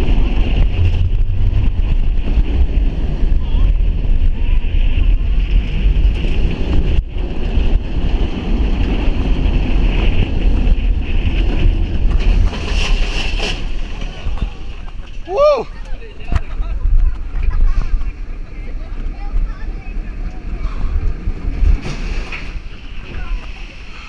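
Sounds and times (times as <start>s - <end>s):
roller coaster train rumbling: 0.0s - 24.0s
wind rushing over microphone: 0.0s - 24.0s.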